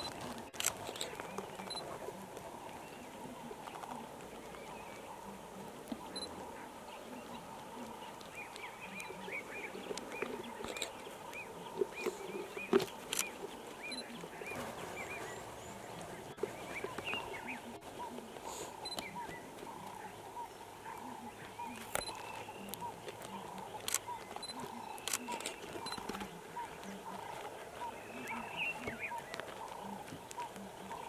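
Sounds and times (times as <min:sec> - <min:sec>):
bird chirping: 0:05.9 - 0:31.0.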